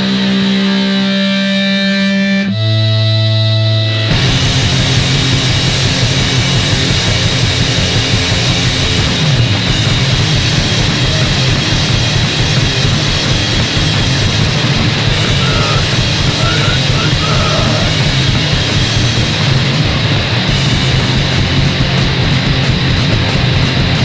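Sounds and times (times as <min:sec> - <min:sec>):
bass guitar: 0:00.0 - 0:24.0
distorted guitar: 0:00.0 - 0:24.0
drums: 0:00.0 - 0:24.0.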